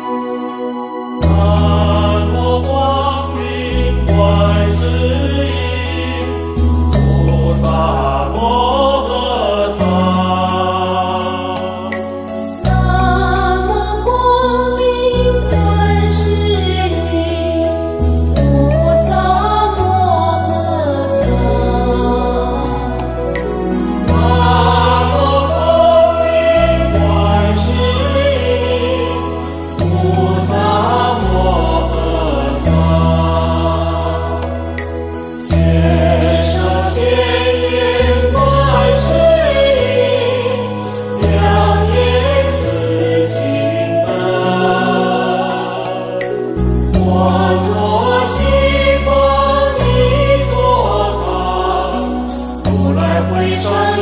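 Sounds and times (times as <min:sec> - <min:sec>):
voices singing devotional song: 0:00.0 - 0:54.0
sustained low bass notes: 0:01.2 - 0:11.9, 0:12.6 - 0:54.0.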